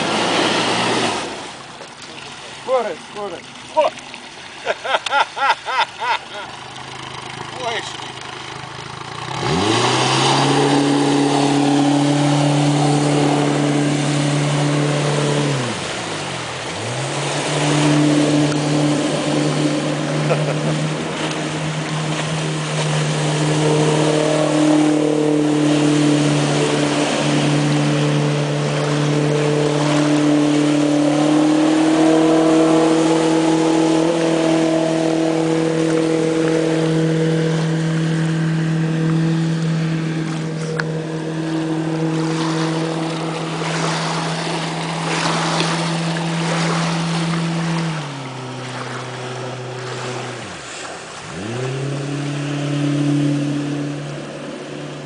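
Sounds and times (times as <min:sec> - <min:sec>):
outboard motor revving: 0:00.0 - 0:55.0.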